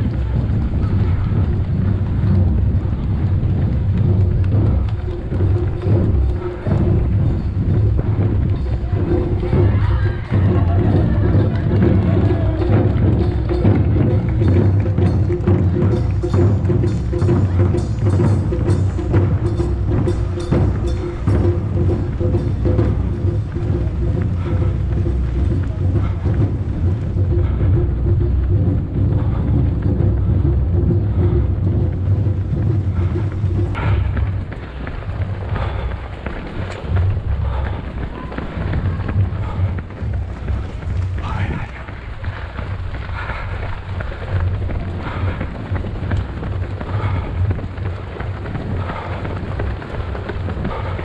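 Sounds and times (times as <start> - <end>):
soft rhythmic pulse: 0.0 - 51.0
wind buffeting microphone: 0.0 - 51.0.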